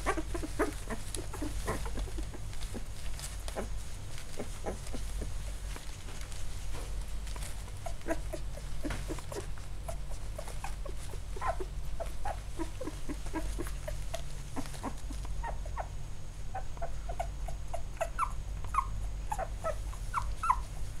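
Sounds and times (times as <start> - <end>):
puppies squeaking and whimpering: 0.0 - 6.3, 7.1 - 21.0
steady low hum: 0.0 - 21.0.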